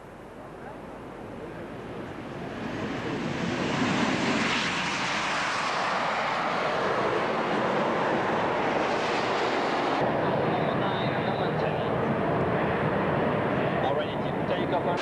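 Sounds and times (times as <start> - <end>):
jet engines roaring on takeoff: 0.2 - 15.0.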